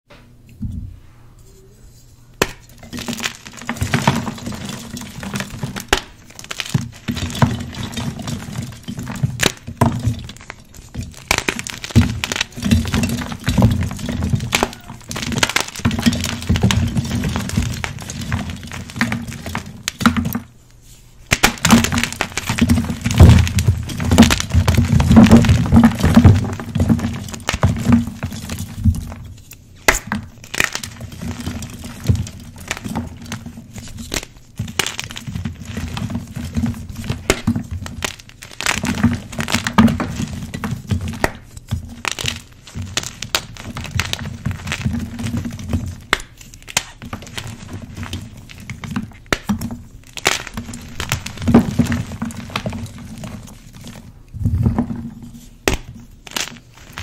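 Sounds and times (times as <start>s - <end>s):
chalk blocks crunching by hand: 2.4s - 20.6s, 21.2s - 57.0s.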